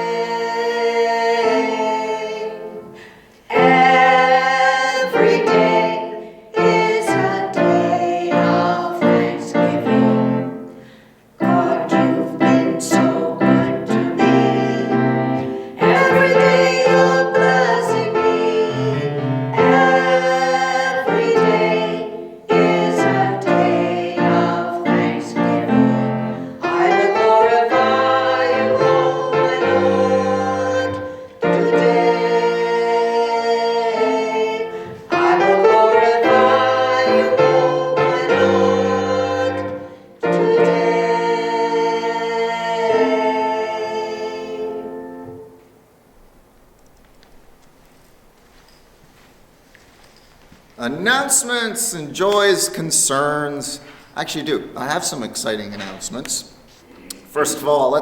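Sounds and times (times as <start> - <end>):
person singing gospel song: 0.0 - 45.6, 50.8 - 58.0
piano: 0.0 - 58.0.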